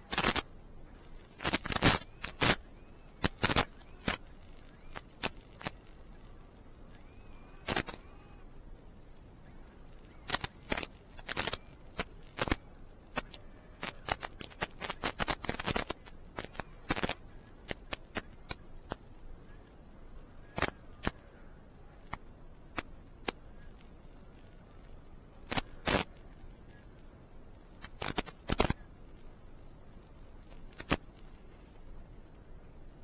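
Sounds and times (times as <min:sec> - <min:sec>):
low steady background noise: 0:00.0 - 0:33.0.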